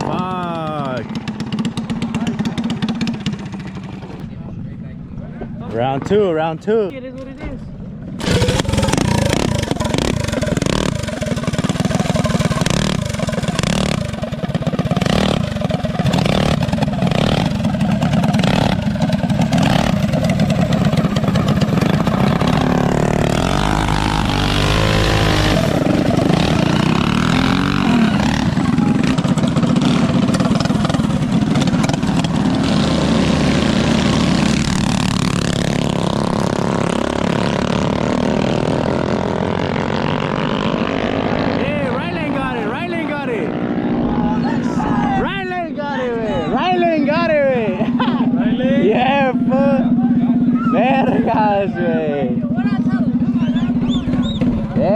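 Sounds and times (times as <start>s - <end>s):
mini bike engines revving: 0.0s - 4.2s, 8.1s - 54.9s.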